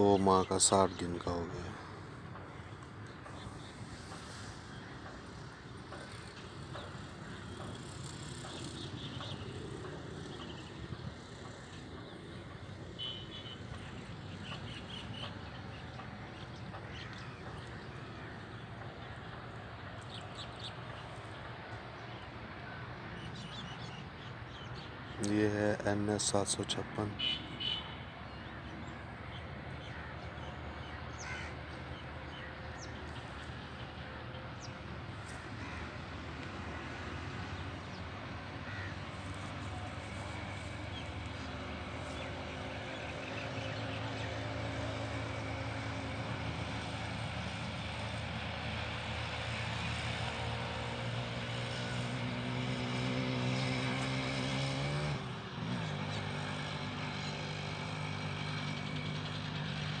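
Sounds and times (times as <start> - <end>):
engine droning: 0.0 - 23.7, 28.8 - 60.0.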